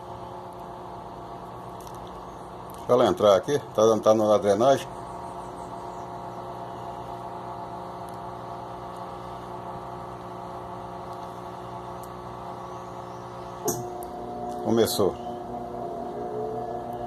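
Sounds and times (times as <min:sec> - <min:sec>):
washing machine drain pump humming: 0:00.0 - 0:17.0.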